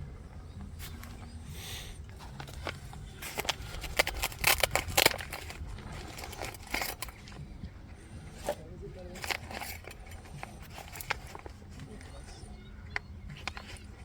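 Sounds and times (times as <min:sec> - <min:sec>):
cooking gear clicks and scrapes: 0:00.5 - 0:14.0.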